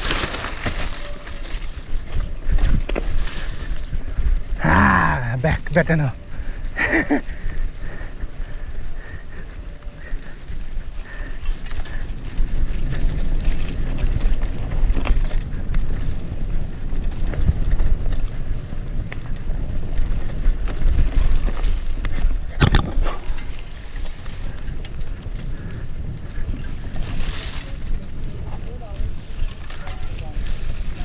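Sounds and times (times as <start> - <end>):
bike rattling over bumps: 0.0 - 31.0
tyres rumbling on dirt: 0.0 - 31.0
wind buffeting microphone: 0.0 - 31.0.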